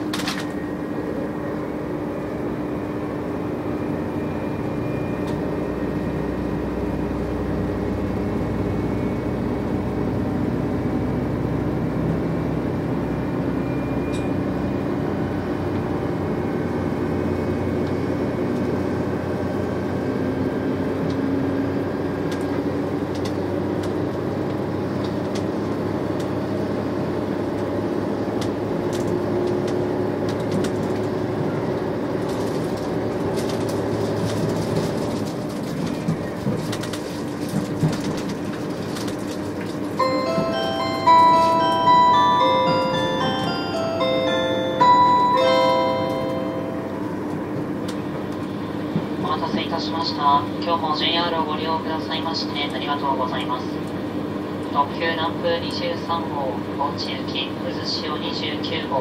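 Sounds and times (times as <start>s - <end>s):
diesel train drone from inside: 0.0s - 59.0s.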